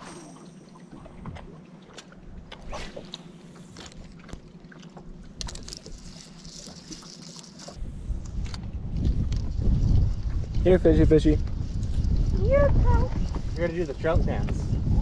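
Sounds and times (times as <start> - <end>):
boat engine low hum: 0.0 - 15.0.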